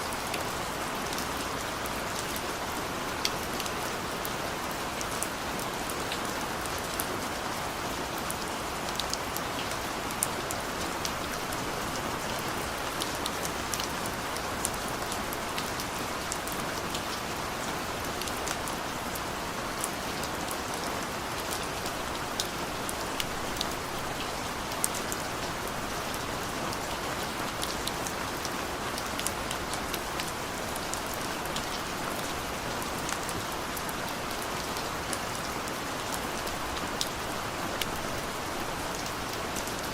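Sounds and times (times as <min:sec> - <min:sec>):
raindrops ticking and pattering: 0:00.0 - 0:39.9.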